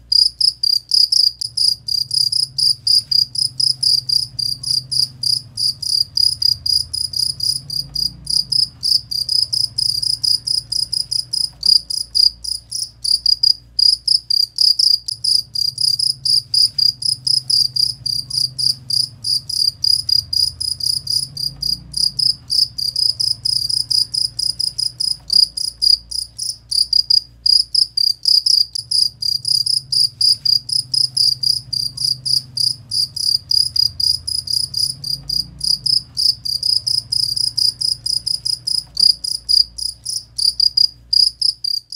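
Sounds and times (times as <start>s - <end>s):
cricket chirping: 0.1s - 41.9s.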